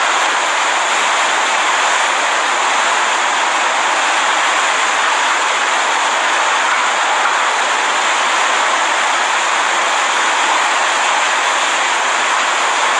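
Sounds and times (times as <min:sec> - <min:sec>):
driving rain: 0:00.0 - 0:12.9.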